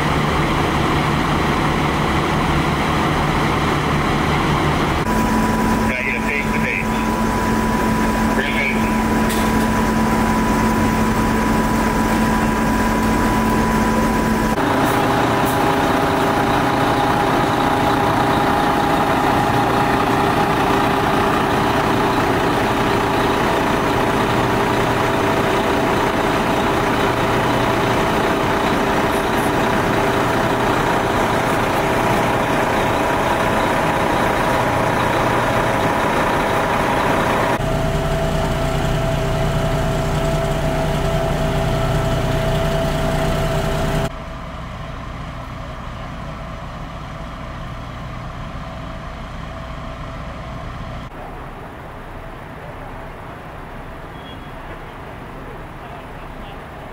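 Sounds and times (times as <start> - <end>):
fire truck engines idling: 0.0 - 56.9.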